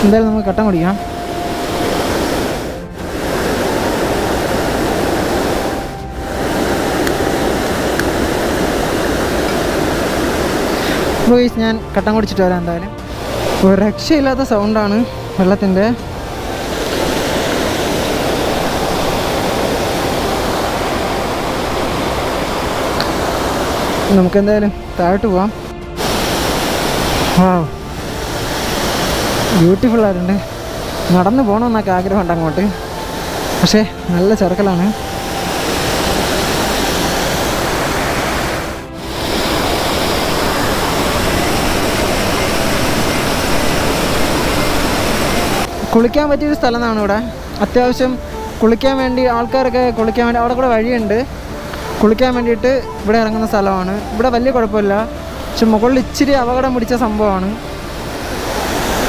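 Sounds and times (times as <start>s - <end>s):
waterfall rushing over rock: 0.0s - 59.0s.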